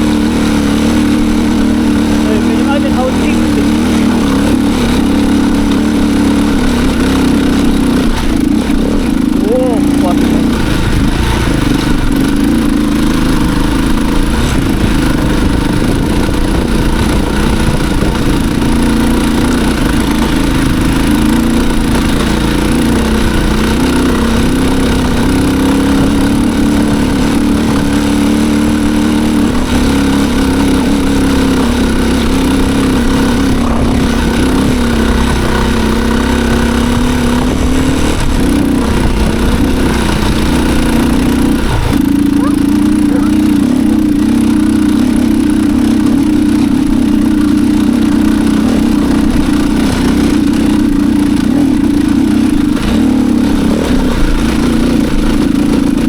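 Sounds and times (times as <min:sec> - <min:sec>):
motorcycle engine climbing hill: 0:00.0 - 0:56.0.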